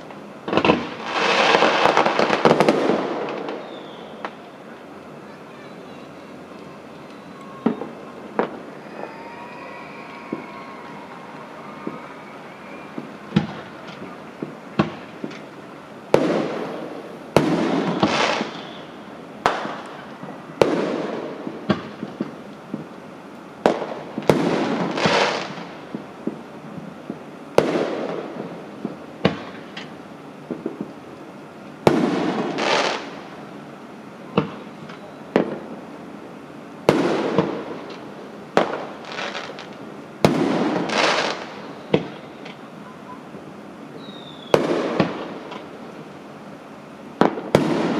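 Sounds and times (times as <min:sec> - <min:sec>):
fireworks bangs: 0:00.0 - 0:22.9, 0:23.6 - 0:31.0, 0:31.8 - 0:33.4, 0:34.2 - 0:35.9, 0:36.8 - 0:42.8, 0:43.9 - 0:45.9, 0:47.2 - 0:47.9
fireworks hissing crackle: 0:00.0 - 0:47.9.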